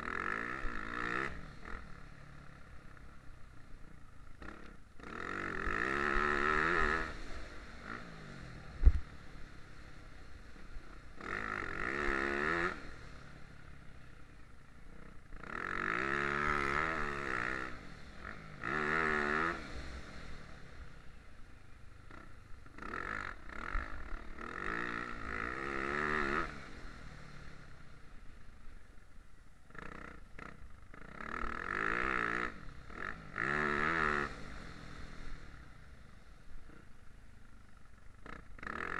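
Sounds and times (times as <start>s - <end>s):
motorbike engine revving: 0.0s - 28.4s, 29.6s - 36.9s, 38.1s - 38.9s.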